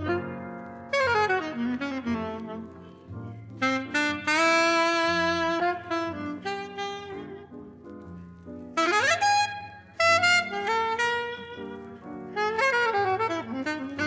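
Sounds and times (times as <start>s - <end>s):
jazz saxophone ballad solo: 0.0s - 14.0s.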